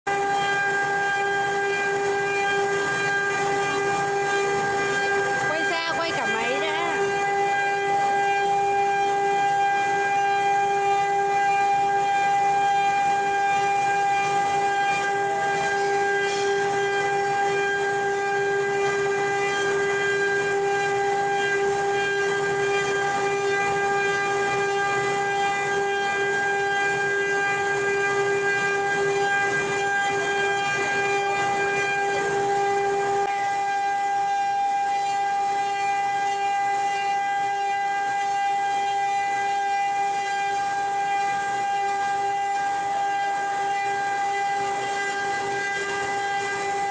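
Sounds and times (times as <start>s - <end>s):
machine spindle whining: 0.1s - 46.9s.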